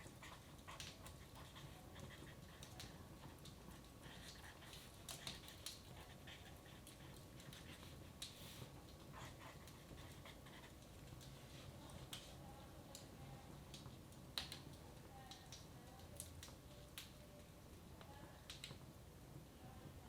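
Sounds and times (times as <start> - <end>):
low room hum: 0.0 - 20.0
wood fire crackling: 0.0 - 20.0.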